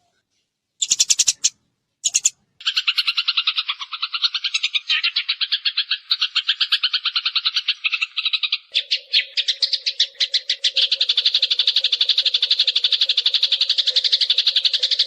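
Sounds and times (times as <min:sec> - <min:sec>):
sparrows chirping: 0:00.8 - 0:15.0.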